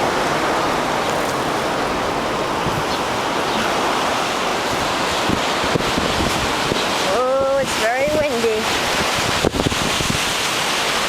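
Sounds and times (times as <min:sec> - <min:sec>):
heavy surf: 0:00.0 - 0:11.0
strong hurricane wind: 0:00.0 - 0:11.0.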